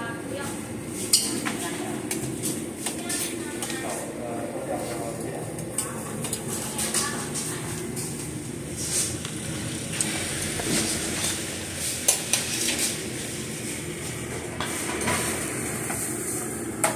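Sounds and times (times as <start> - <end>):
steady background noise: 0.0 - 16.9.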